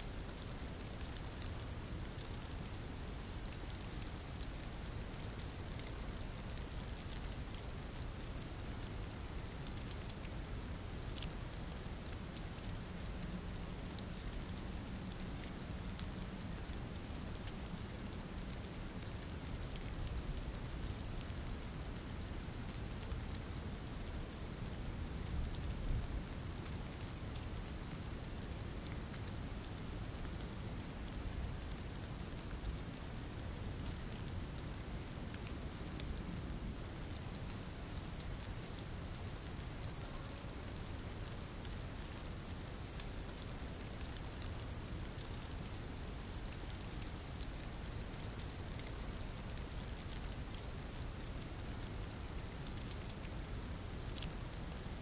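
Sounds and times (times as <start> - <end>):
steady rain falling: 0.0 - 55.0
raindrop ticks: 0.4 - 55.0.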